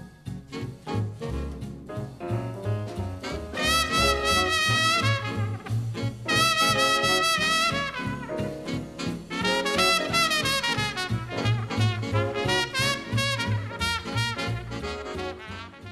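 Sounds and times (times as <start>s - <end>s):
swing jazz music with brass: 0.0s - 15.9s.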